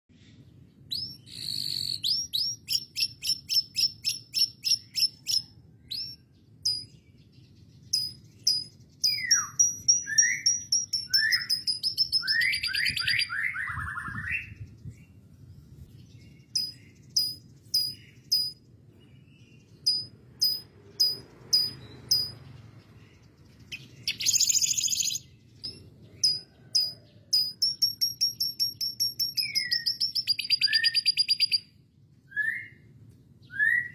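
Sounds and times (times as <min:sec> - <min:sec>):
canary singing trills: 0:00.5 - 0:14.9, 0:16.2 - 0:31.8.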